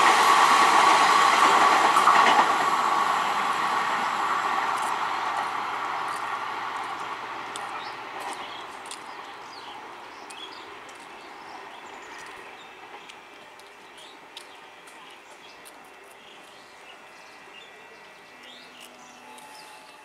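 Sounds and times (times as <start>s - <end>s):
train rail noise: 0.0s - 20.0s.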